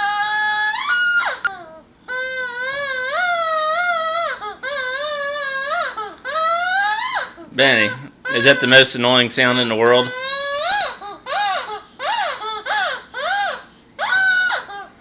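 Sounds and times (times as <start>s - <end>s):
child squealing: 0.0s - 15.0s.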